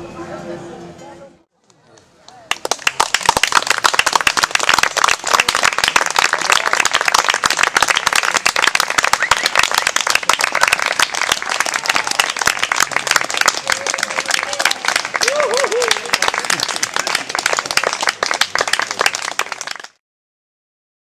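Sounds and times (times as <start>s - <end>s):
audience applauding: 2.3s - 20.0s.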